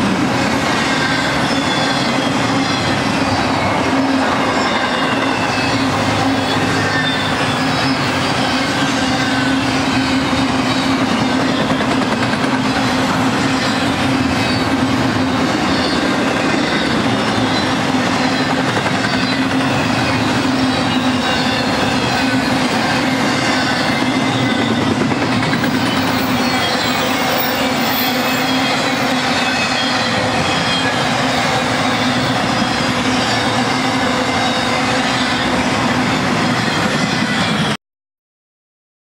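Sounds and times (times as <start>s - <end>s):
train wheels rumbling on track: 0.0s - 37.8s.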